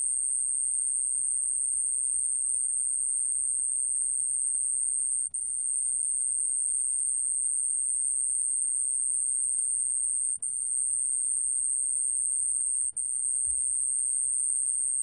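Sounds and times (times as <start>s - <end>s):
cricket high-pitched trill: 0.0s - 15.0s.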